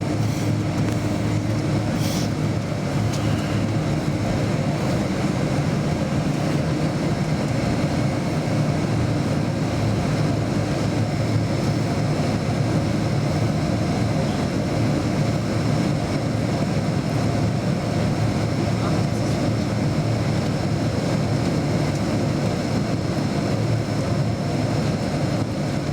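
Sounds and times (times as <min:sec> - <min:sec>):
jet cabin engine rumble: 0:00.0 - 0:25.9.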